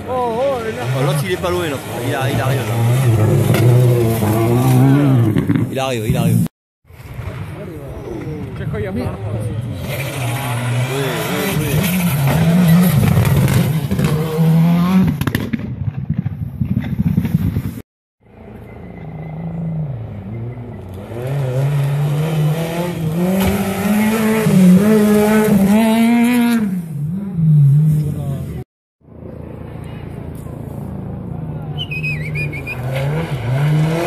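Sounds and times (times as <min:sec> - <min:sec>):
rally car engines at full throttle: 0:00.0 - 0:15.3, 0:18.3 - 0:34.0.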